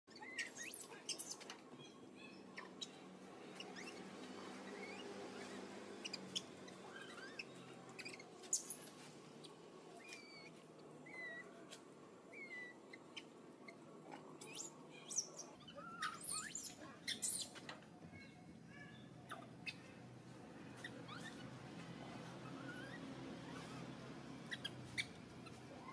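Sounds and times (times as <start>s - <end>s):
animal chirps and squeaks: 0.1s - 20.0s, 20.7s - 25.9s.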